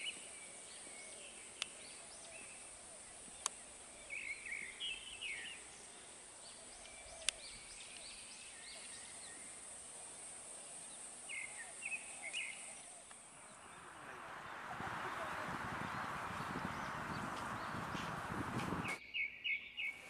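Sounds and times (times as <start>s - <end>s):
birds chirping: 0.0s - 9.6s, 10.8s - 20.0s
faint high hiss: 0.0s - 19.0s.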